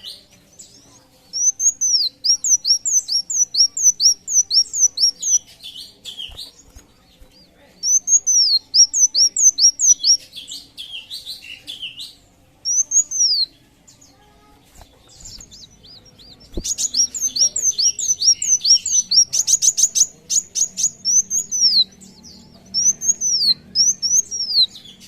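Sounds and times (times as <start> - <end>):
sunbird singing: 0.0 - 25.0.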